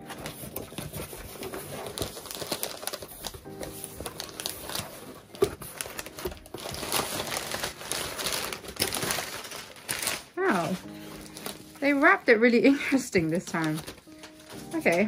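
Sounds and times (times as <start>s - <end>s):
cardboard flaps folding: 0.0s - 12.0s, 13.2s - 15.0s
paper packing rustling: 0.0s - 15.0s.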